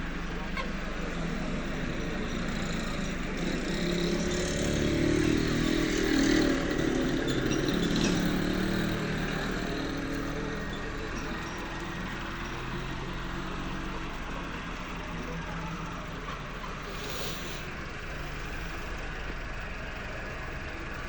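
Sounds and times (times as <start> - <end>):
motor engine running: 0.0 - 21.0.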